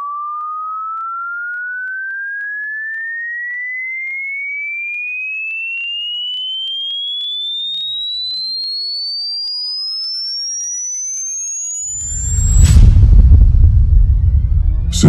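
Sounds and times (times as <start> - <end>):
rising sine-wave test tone: 0.0 - 15.0.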